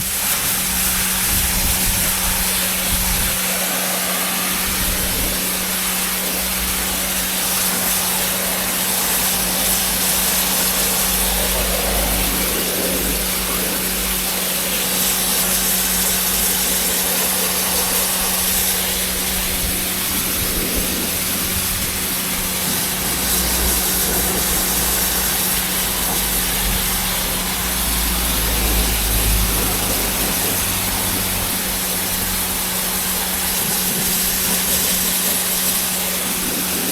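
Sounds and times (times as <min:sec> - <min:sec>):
pressure washer motor hum: 0:00.0 - 0:36.9
water jet hissing: 0:00.0 - 0:36.9.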